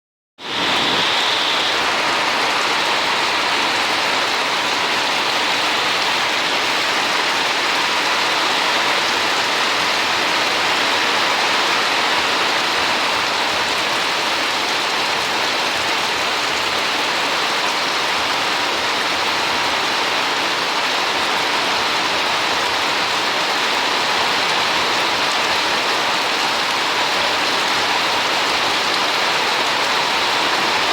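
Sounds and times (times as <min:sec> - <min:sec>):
steady rain falling: 0:00.4 - 0:30.9.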